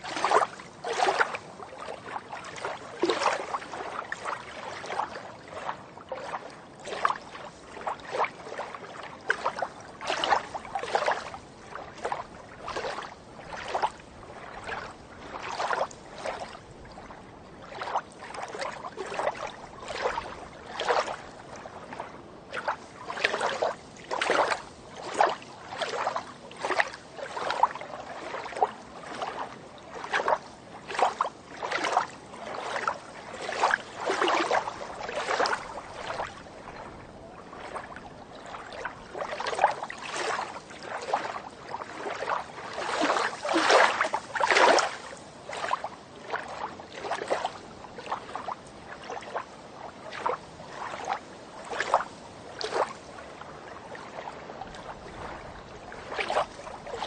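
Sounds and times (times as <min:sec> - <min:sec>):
swimming strokes splashing: 0:00.0 - 0:49.5, 0:50.1 - 0:57.0.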